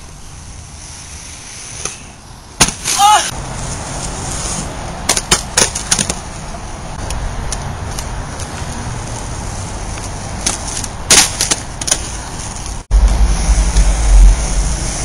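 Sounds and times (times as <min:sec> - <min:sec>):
skate wheels rolling on asphalt: 0:00.0 - 0:15.0.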